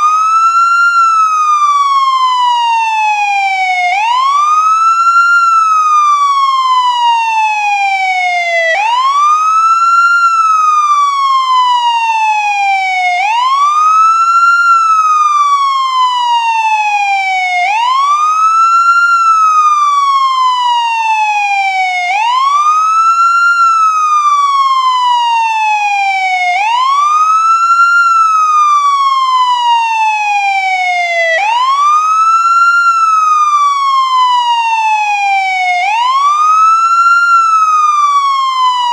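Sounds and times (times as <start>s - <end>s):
ambulance wail siren: 0.0s - 38.9s.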